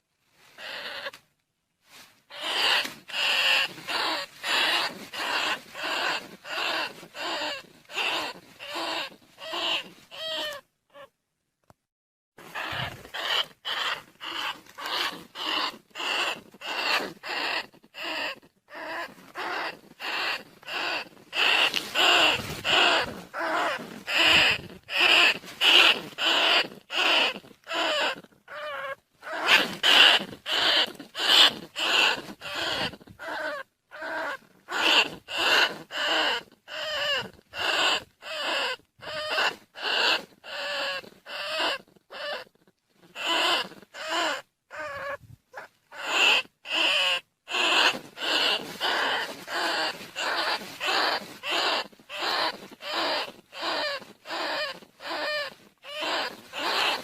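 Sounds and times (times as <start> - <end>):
rats squealing: 0.6 - 1.2, 2.3 - 11.1, 12.4 - 57.0.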